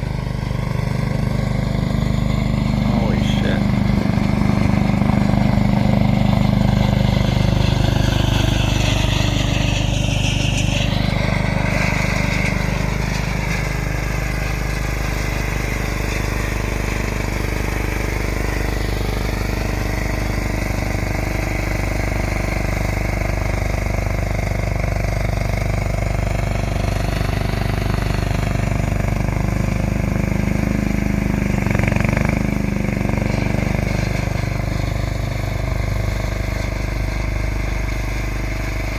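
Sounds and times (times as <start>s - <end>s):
engine running under load: 0.0s - 38.9s.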